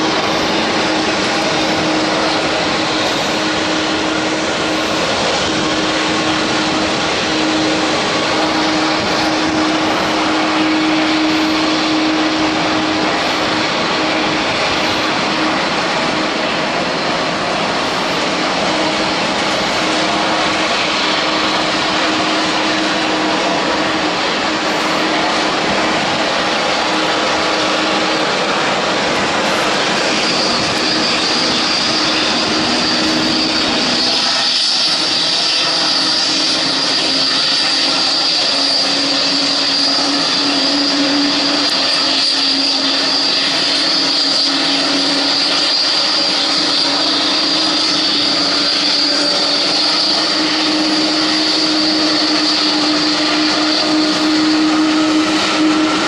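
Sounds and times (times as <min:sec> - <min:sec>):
high jet whine: 0:00.0 - 0:56.0
jet engines rushing: 0:00.0 - 0:56.0
low engine hums: 0:00.0 - 0:56.0.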